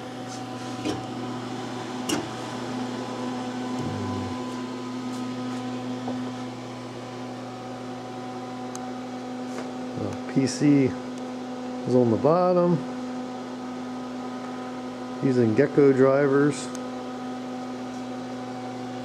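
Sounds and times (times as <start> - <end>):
electrical hum with fan whir: 0.0 - 19.0.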